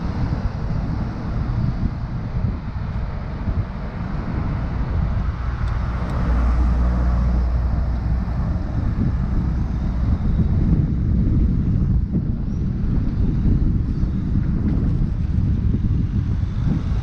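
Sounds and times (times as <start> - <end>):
motor vehicle traffic: 0.0 - 17.0
wind rumbling on microphone: 0.0 - 17.0.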